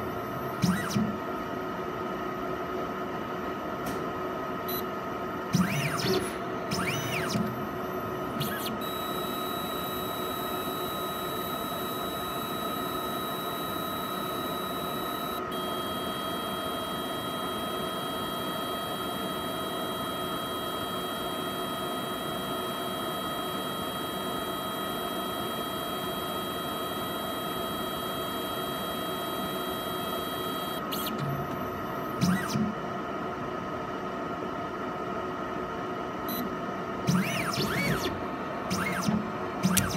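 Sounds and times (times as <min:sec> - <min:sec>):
machine mechanical hum: 0:00.0 - 0:39.9.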